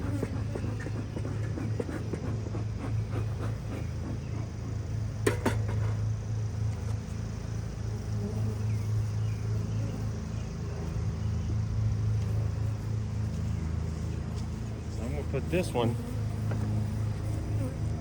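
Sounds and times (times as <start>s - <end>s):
honeybees humming: 0.0s - 18.0s.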